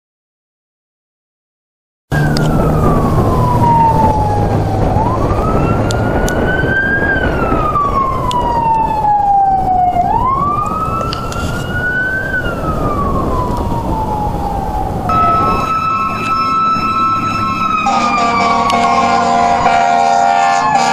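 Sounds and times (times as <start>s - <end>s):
electronic siren wail: 2.1s - 20.9s
road and engine noise: 2.1s - 20.9s.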